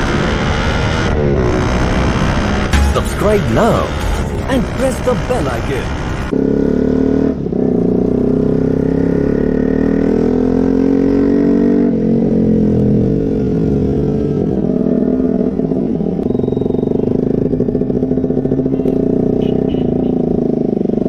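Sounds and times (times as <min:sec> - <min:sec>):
motorcycle engine revving: 0:03.7 - 0:21.0.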